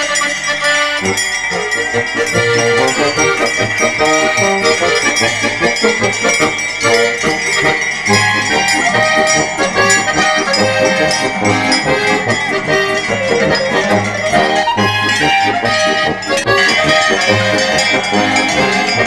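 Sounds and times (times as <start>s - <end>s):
cowbells clanking: 0.0s - 19.0s
oom-pah folk music: 0.0s - 19.0s.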